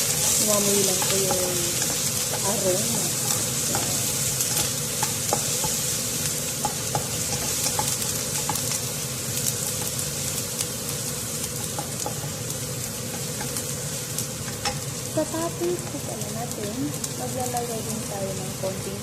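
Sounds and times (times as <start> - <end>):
peppers sizzling in hot oil: 0.0 - 19.0.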